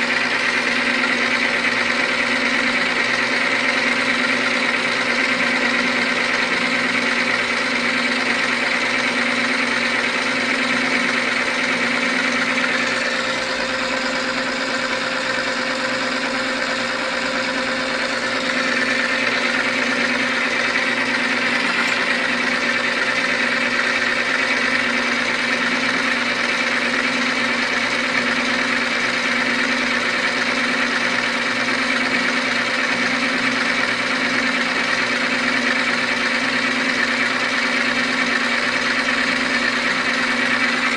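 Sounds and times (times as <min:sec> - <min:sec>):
lathe motor humming: 0:00.0 - 0:40.9.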